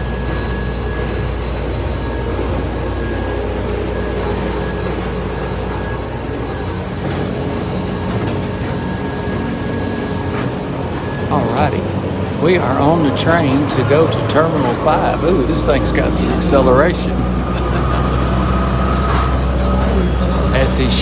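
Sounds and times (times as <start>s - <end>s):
high whine: 0.0s - 21.0s
train rumble and hum: 0.0s - 21.0s.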